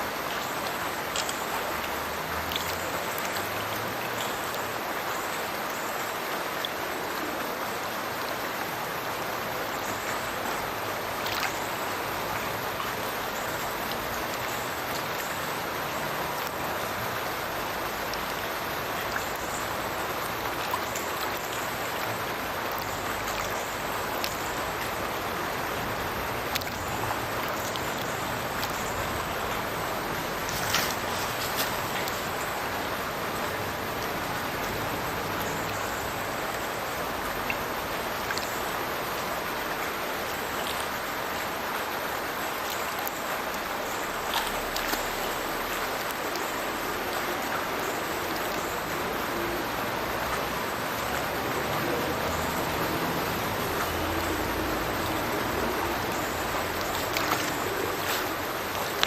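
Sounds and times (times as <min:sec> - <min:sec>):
water rushing and splashing: 0:00.0 - 0:59.0.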